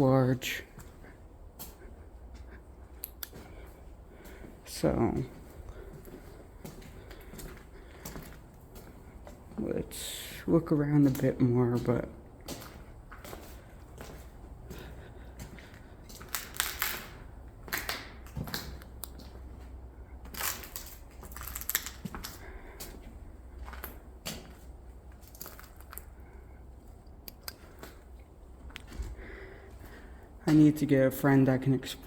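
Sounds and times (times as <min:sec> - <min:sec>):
steady low rumble: 0:00.0 - 0:31.2
footsteps crunching over debris: 0:00.1 - 0:26.9.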